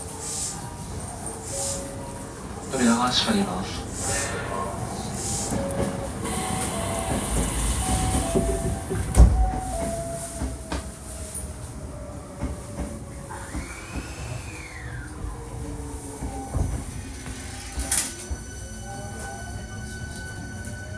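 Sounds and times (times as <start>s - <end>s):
train running noise: 0.0s - 20.9s
electric train inverter whining: 2.1s - 11.0s, 11.6s - 20.9s.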